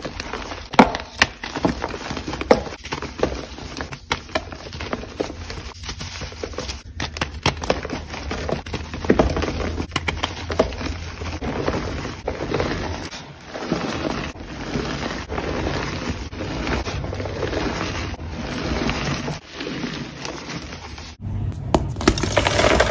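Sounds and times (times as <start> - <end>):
hands crunching chalk blocks: 0.0 - 21.2, 22.0 - 22.9.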